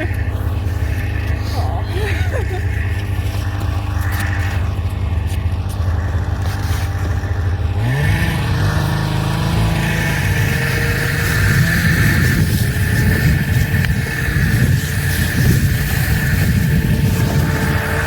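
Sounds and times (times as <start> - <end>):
snowmobile engine revving: 0.0 - 18.0.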